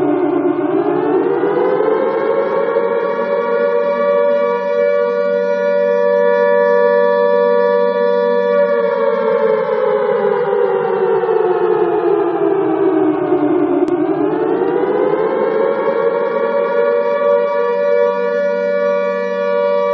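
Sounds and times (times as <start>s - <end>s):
alarm siren wailing: 0.0s - 19.9s.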